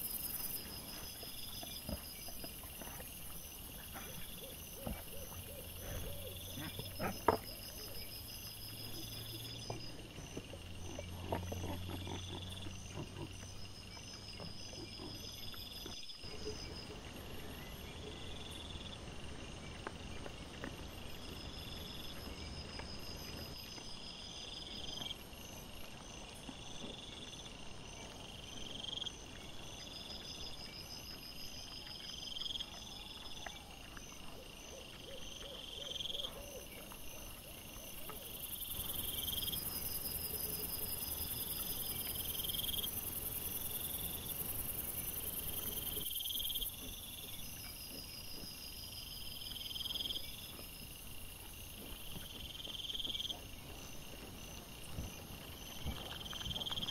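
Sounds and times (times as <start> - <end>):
insects chirping: 0.0 - 56.9
wild boar grunting and rooting: 0.0 - 56.9.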